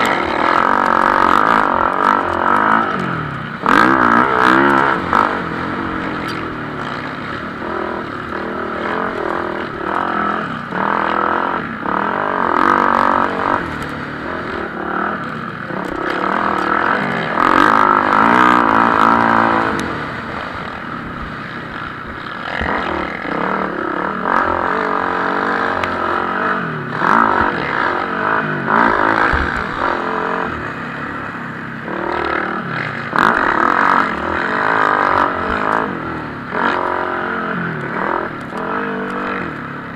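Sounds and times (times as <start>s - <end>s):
motocross bikes revving past: 0.0s - 39.9s.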